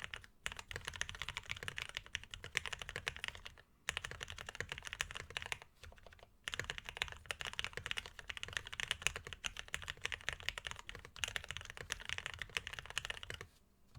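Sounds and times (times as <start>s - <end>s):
mechanical keyboard typing: 0.0s - 13.5s.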